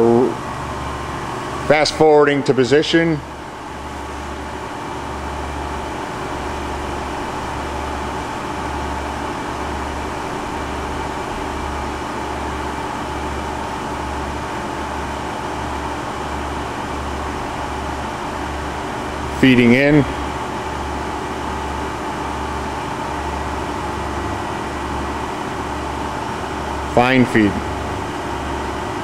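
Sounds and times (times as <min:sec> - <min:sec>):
grinder machine humming and throbbing: 0:00.0 - 0:29.0.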